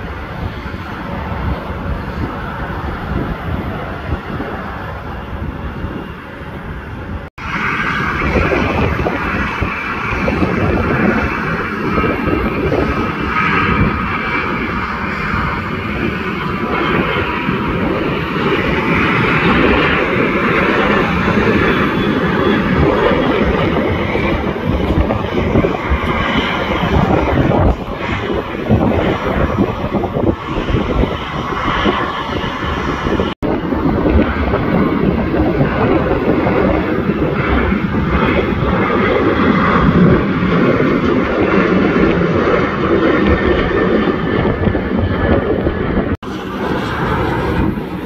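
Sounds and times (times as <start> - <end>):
jet engines at takeoff thrust: 0.0 - 48.0
jet taxiing: 0.0 - 48.0.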